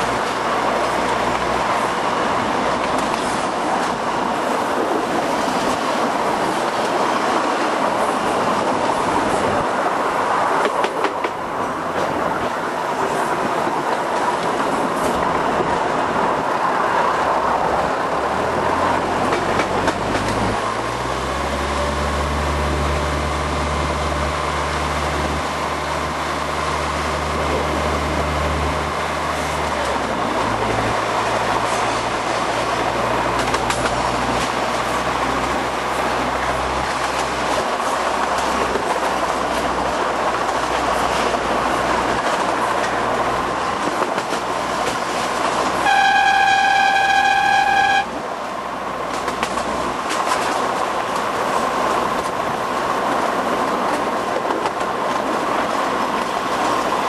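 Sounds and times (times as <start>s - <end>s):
tram wheels rattling on rails: 0.0s - 57.0s.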